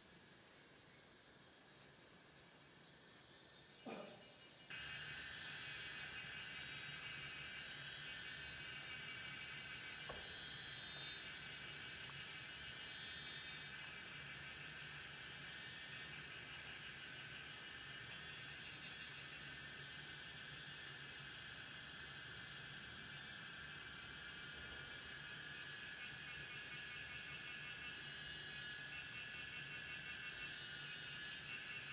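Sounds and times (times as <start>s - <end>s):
steady high hiss: 0.0s - 31.9s.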